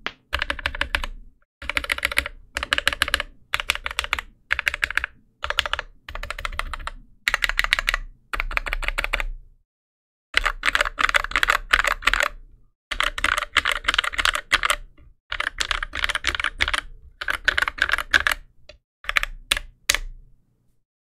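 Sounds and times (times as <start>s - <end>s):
fast typing on keyboard: 0.3s - 9.3s, 10.4s - 18.5s, 19.1s - 19.8s.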